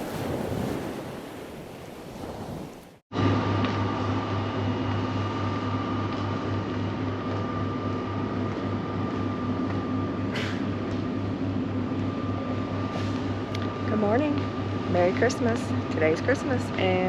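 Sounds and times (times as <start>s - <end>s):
mechanical hum with throb: 3.2s - 17.0s.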